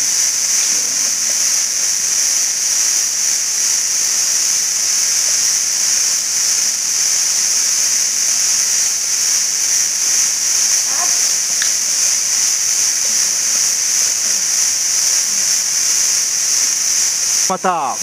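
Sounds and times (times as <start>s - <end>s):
cicadas chorus: 0.0s - 18.0s.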